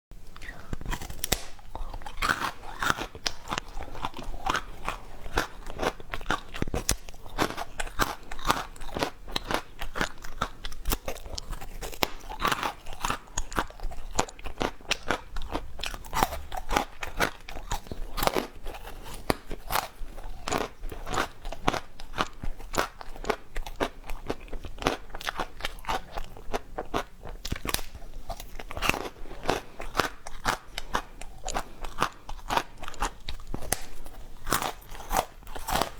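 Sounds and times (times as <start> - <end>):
person chewing ice: 0.2 - 35.9.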